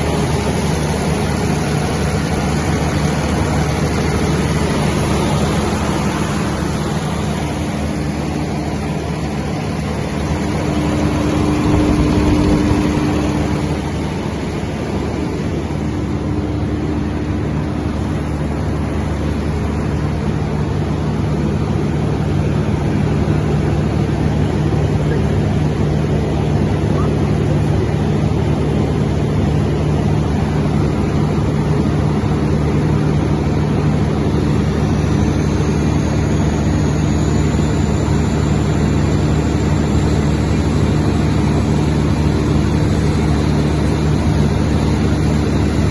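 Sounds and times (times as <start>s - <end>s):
diesel generator humming: 0.0s - 45.9s.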